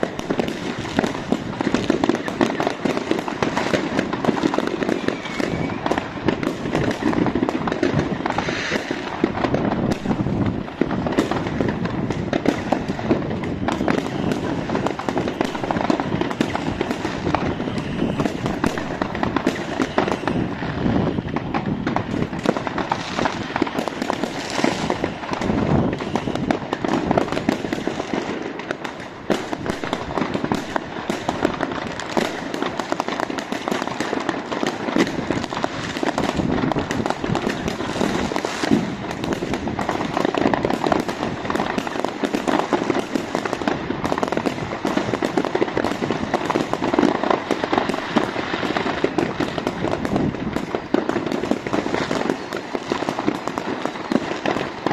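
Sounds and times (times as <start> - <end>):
fireworks and firecrackers crackling: 0.0 - 54.9.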